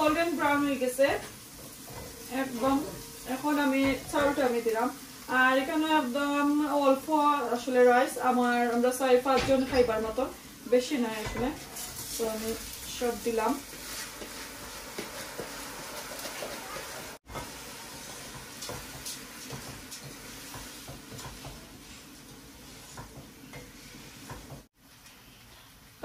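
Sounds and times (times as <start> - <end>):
rice sizzling in oil: 0.0 - 24.9.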